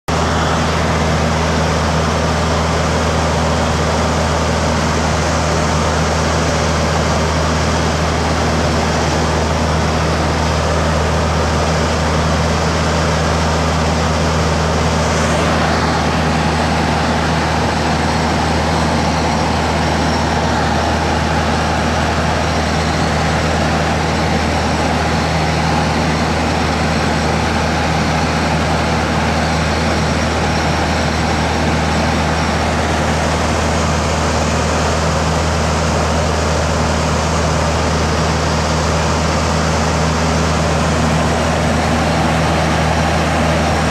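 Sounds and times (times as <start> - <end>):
aircraft engine and propeller droning: 0.1 - 43.9.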